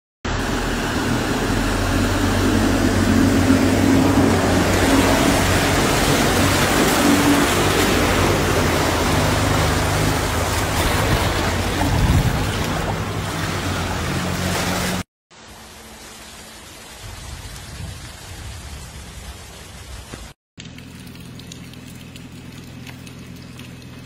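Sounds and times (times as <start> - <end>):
heavy rain: 0.3 - 21.3
floodwater rushing along pavement: 0.3 - 24.0.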